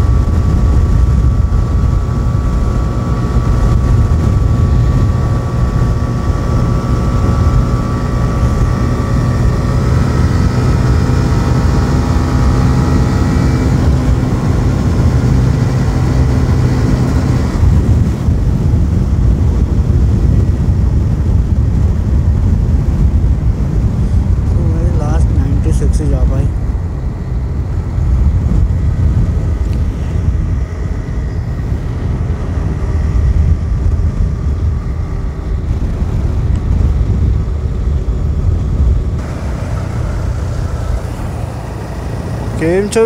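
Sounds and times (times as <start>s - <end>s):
motorcycle engine running: 0.0s - 43.0s
wind rumble on microphone: 0.0s - 43.0s.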